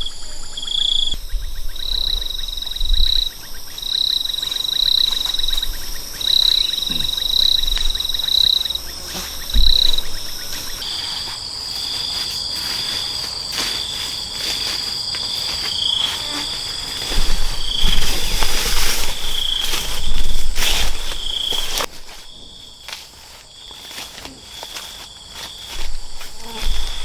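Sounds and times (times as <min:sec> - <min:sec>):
insects shrilling: 0:00.0 - 0:27.0.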